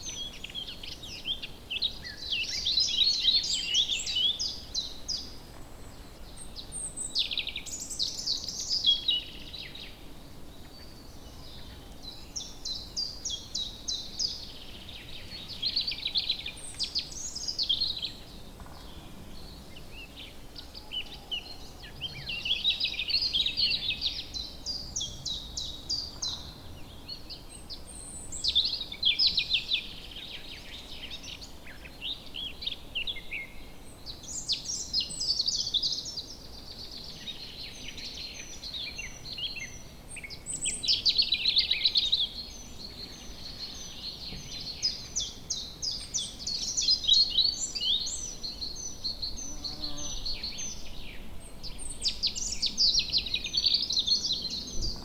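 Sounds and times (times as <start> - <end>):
songbirds trilling: 0.0 - 55.0.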